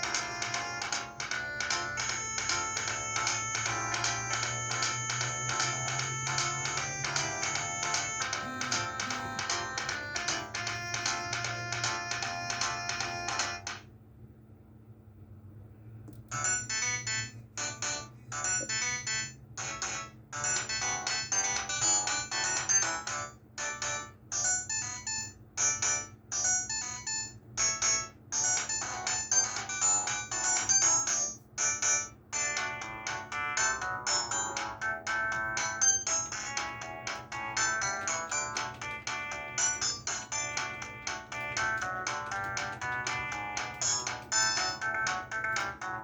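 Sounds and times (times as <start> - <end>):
phone ringtone chiming notes: 0.0 - 13.8, 16.3 - 46.0
steady low hum: 0.0 - 46.0.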